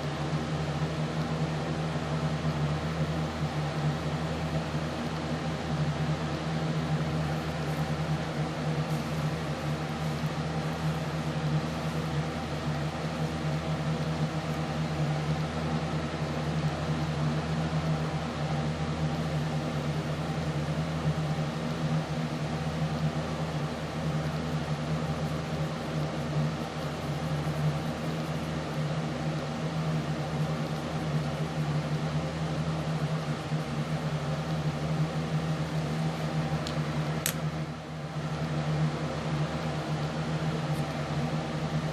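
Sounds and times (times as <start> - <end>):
steady mechanical hum: 0.0 - 41.9.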